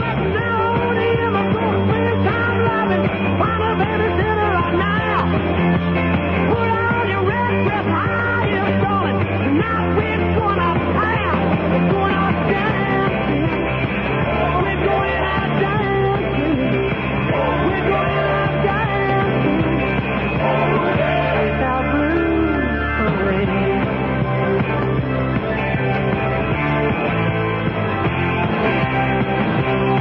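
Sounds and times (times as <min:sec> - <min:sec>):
muffled rock music on radio: 0:00.0 - 0:30.0.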